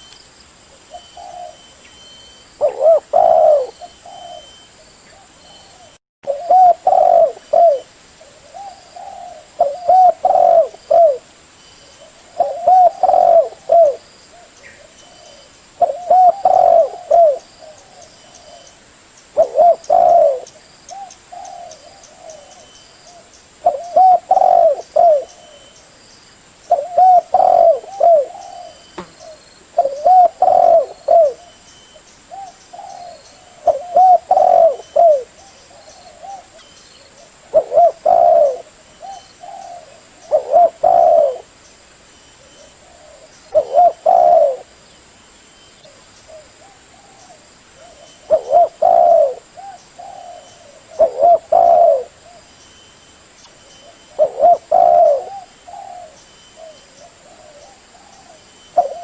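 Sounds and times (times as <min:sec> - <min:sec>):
dove cooing: 0:00.8 - 0:11.3, 0:12.0 - 0:18.8, 0:19.4 - 0:25.8, 0:26.7 - 0:31.6, 0:32.3 - 0:41.6, 0:42.4 - 0:44.8, 0:45.9 - 0:52.5, 0:53.8 - 0:59.0.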